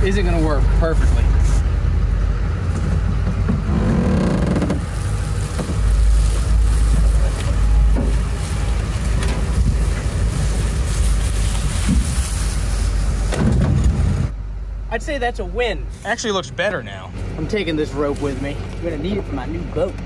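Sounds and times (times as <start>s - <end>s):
pickup truck engine running: 0.0s - 20.0s.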